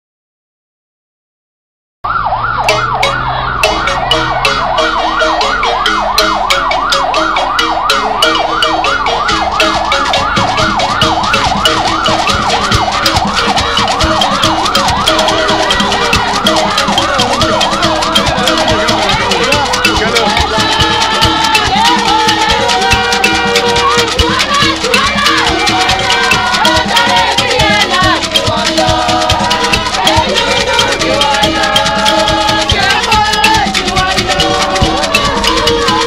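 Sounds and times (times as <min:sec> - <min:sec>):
siren yelping: 0:02.0 - 0:36.0
percussive clicks and beats: 0:02.6 - 0:36.0.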